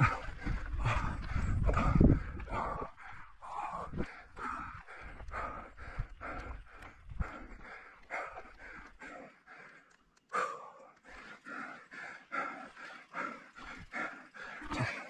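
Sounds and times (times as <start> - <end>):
person panting hard: 0.0 - 15.0.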